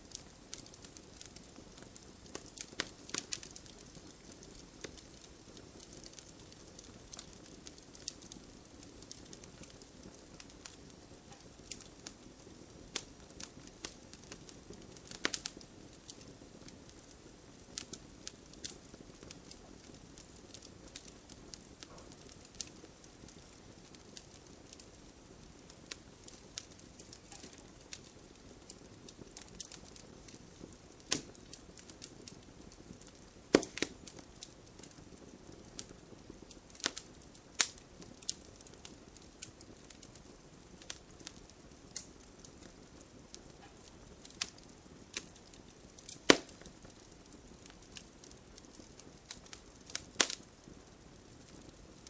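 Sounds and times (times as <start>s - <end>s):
gentle rain pattering: 0.0s - 52.0s
wood bonfire crackling: 0.0s - 52.0s
sharp fire pops: 0.1s - 16.7s, 17.7s - 40.2s, 43.4s - 47.1s, 47.7s - 51.7s.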